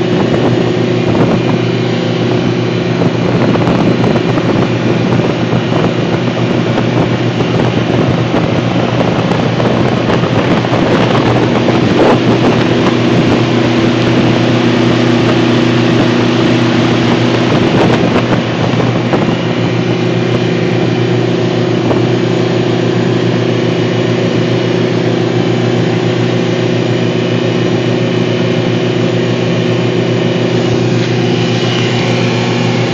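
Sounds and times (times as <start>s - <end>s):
boat engine running: 0.0s - 32.9s
water rushing: 0.0s - 32.9s
wind on microphone: 0.0s - 32.9s.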